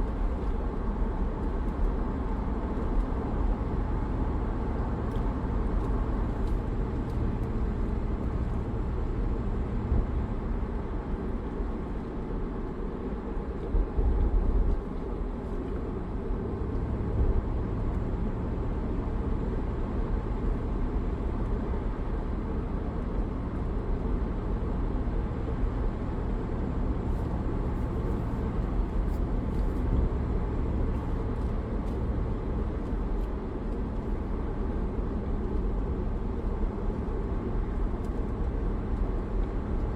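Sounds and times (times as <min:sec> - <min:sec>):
engine and road noise rumble: 0:00.0 - 0:39.9.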